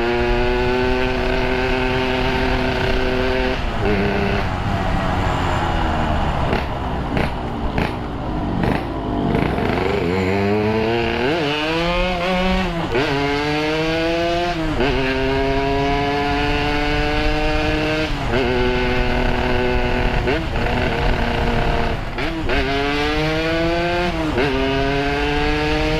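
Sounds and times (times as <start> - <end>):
motorcycle accelerating through gears: 0.0 - 25.9.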